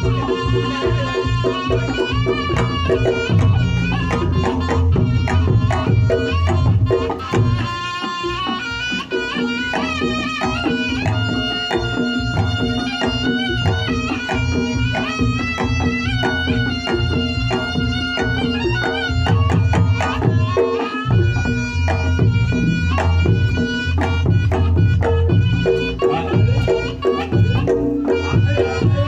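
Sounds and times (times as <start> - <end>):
quick hand drumming: 0.0 - 29.0
wailing reed melody: 0.0 - 29.0.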